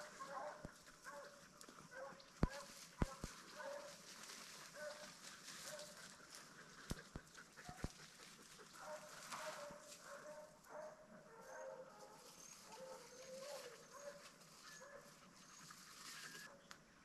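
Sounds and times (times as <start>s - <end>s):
hounds baying: 0.0s - 16.6s.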